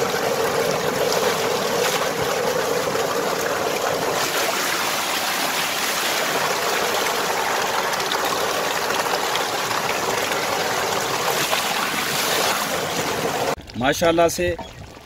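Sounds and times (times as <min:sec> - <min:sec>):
water gushing into a tank: 0:00.0 - 0:13.8.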